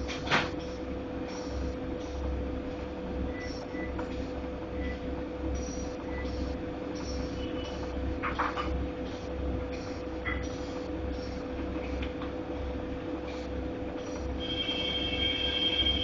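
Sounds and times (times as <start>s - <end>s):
washing machine hum and rumble: 0.0s - 16.0s.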